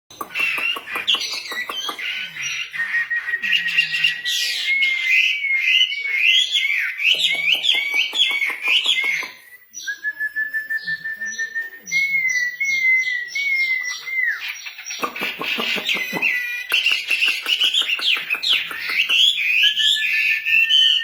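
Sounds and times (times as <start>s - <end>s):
songbird singing: 0.1s - 21.0s.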